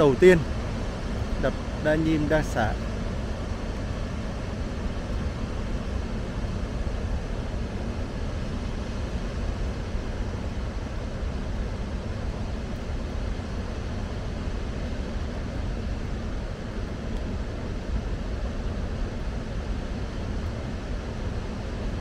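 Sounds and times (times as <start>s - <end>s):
water rushing through spillway: 0.0s - 22.0s.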